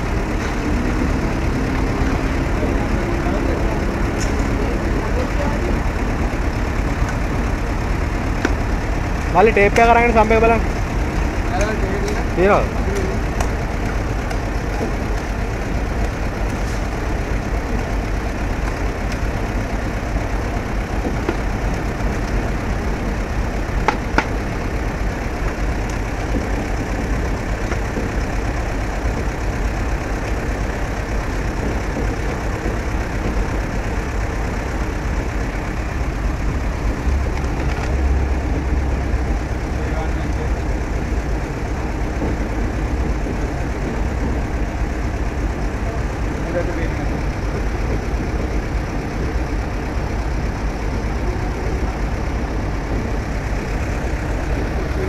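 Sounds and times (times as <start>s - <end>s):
low engine-like drone: 0.0s - 55.0s.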